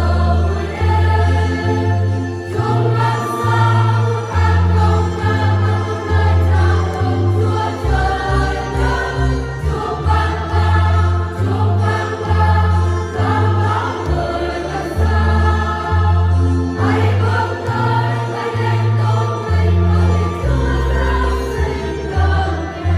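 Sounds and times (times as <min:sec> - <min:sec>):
choir singing a hymn: 0:00.0 - 0:22.9
instrumental backing with bass line: 0:00.0 - 0:22.9.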